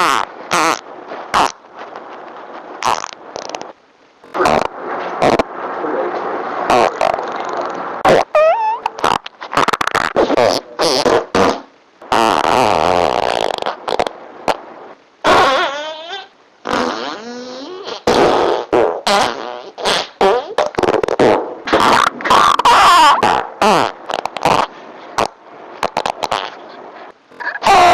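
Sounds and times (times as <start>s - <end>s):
farting sounds: 0.0s - 1.6s, 2.8s - 5.5s, 6.7s - 27.9s.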